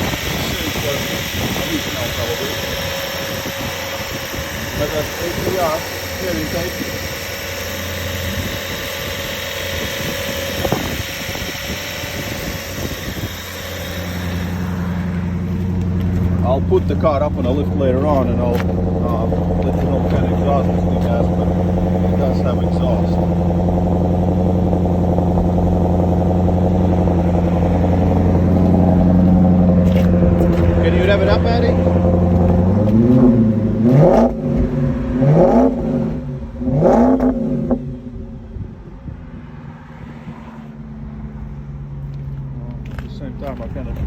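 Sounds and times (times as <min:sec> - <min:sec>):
car engine idling: 0:00.0 - 0:39.2, 0:40.8 - 0:44.0.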